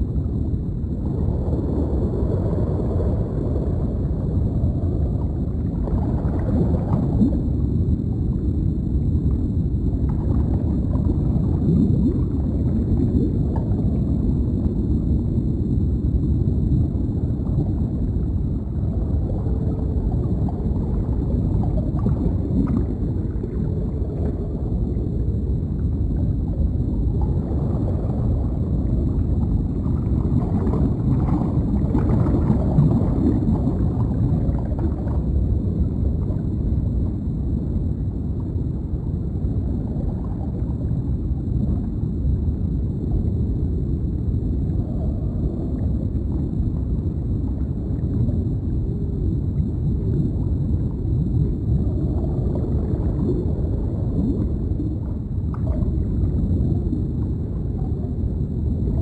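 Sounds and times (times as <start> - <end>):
underwater low rumble: 0.0 - 59.0
water gurgling and bubbling: 0.0 - 59.0.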